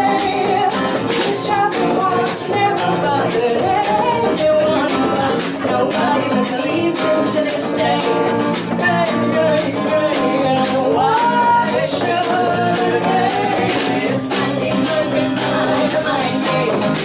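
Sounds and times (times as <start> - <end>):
strummed acoustic guitar: 0.0 - 17.0
woman singing: 0.0 - 17.0.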